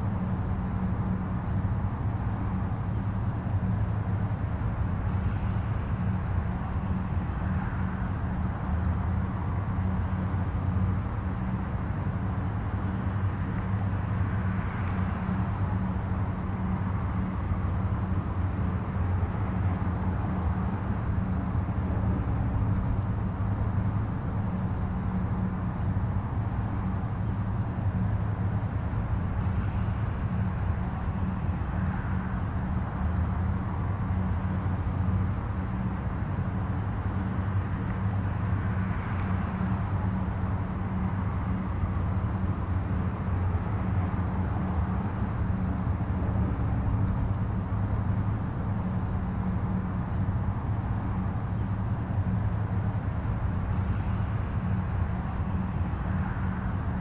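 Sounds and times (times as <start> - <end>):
distant highway traffic rumble: 0.0 - 57.0.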